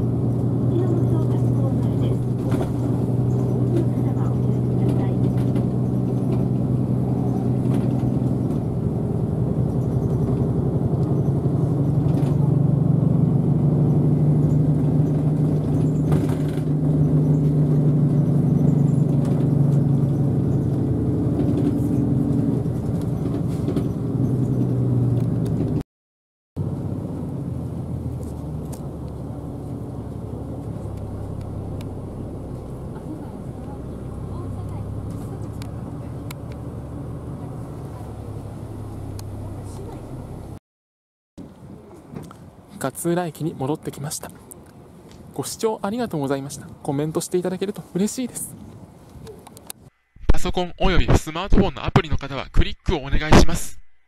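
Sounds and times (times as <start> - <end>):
bus engine drone from inside: 0.0 - 25.8, 26.6 - 40.6, 41.4 - 50.2.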